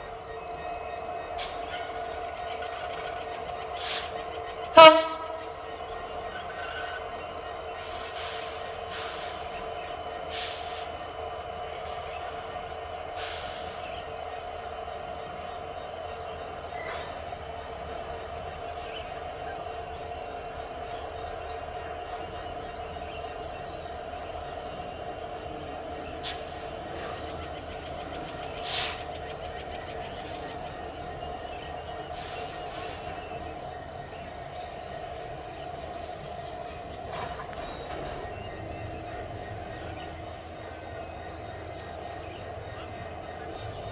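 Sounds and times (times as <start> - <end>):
diesel locomotives rumbling: 0.0 - 43.9
insects chirping: 0.0 - 43.9.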